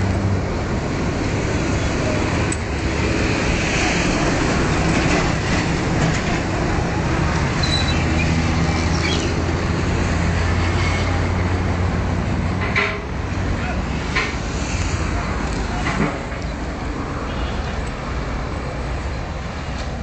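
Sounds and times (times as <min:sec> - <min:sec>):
roadside traffic: 0:00.0 - 0:20.0.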